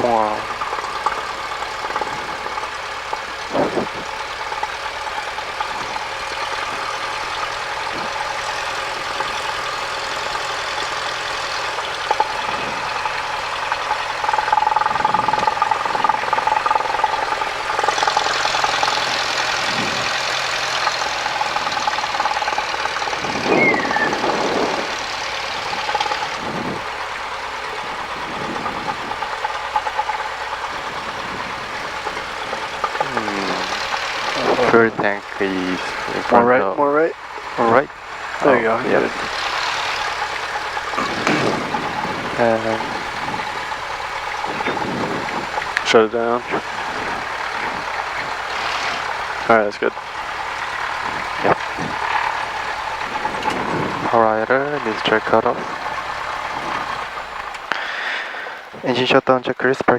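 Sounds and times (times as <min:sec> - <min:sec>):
aircraft engine droning: 0:00.0 - 0:59.9.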